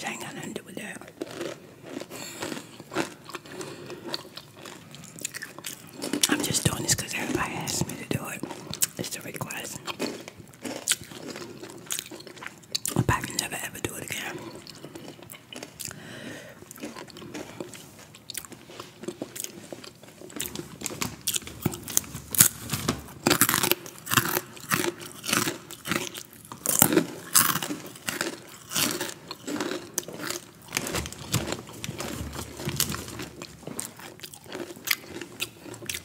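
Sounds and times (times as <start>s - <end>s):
crunching and chewing snack: 0.0s - 36.0s.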